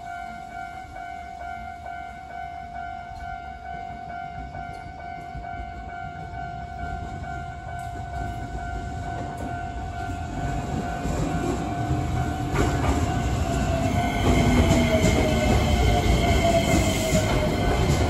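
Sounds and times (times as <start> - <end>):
train rumble and wheel clacks: 0.0 - 18.0.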